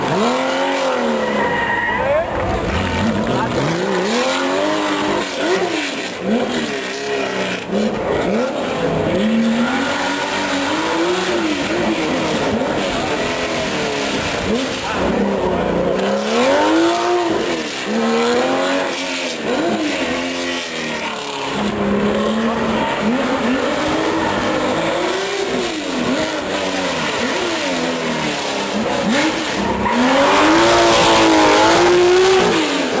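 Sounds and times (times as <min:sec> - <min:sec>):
sports car engine revving: 0:00.0 - 0:33.0.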